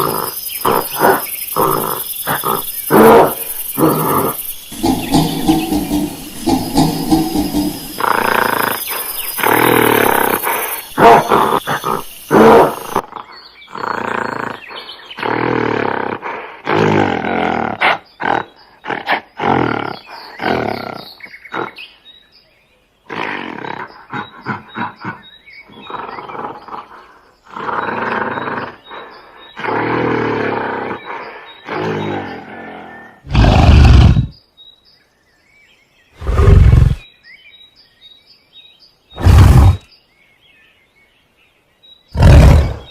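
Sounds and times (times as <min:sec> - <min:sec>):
gorilla roaring and grunting: 0:00.0 - 0:21.8, 0:23.1 - 0:34.4, 0:36.2 - 0:37.0, 0:39.2 - 0:39.9, 0:42.2 - 0:42.9.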